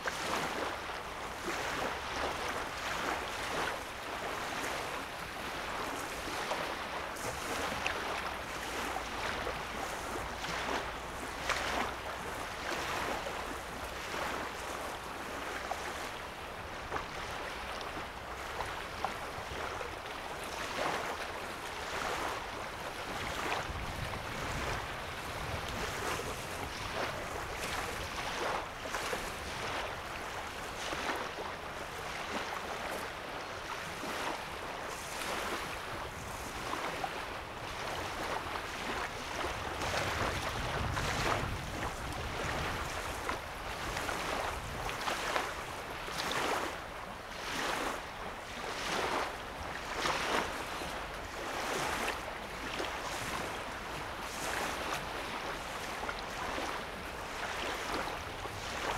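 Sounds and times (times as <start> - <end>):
small waves lapping on shore: 0.0 - 58.9.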